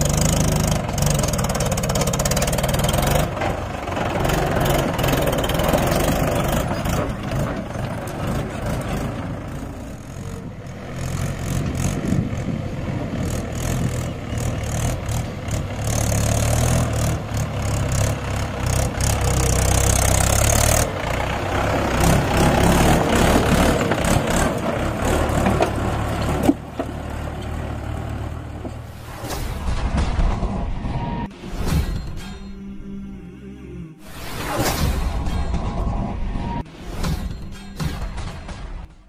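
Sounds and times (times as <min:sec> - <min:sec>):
tractor diesel engine passing: 0:00.0 - 0:31.6.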